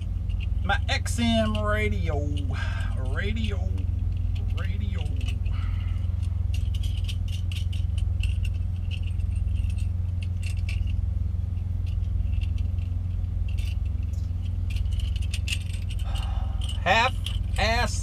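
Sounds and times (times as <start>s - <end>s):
car cabin drone: 0.0s - 18.0s
light rattling and clicking: 0.0s - 18.0s.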